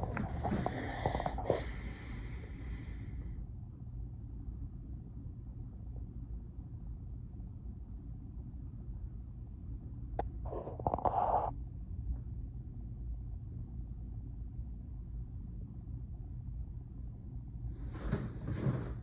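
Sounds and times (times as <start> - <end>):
steady low rumble: 0.0 - 17.9.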